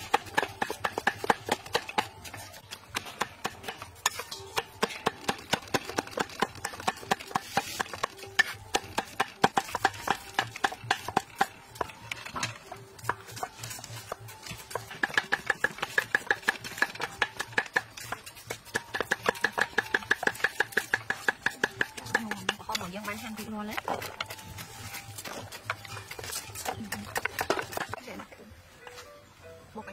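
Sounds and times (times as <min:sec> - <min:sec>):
cleavers chopping on wooden blocks: 0:00.0 - 0:28.3.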